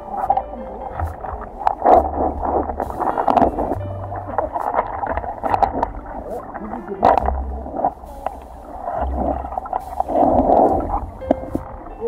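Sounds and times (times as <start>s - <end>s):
low rumble: 0.0s - 12.0s
muffled underwater stream gurgling: 0.0s - 12.0s
underwater clicks and knocks: 0.0s - 12.0s.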